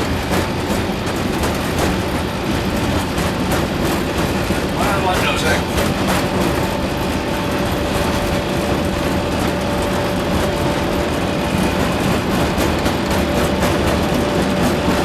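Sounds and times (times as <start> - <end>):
engine and airflow rushing: 0.0 - 15.0.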